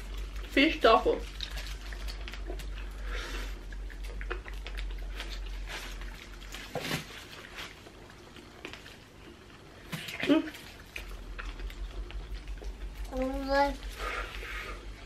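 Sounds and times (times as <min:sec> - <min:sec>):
chewing and lip-smacking: 0:00.0 - 0:13.4.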